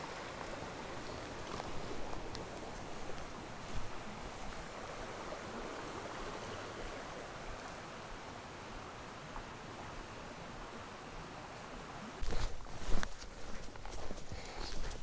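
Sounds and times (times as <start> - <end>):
river water rushing: 0.0 - 14.3.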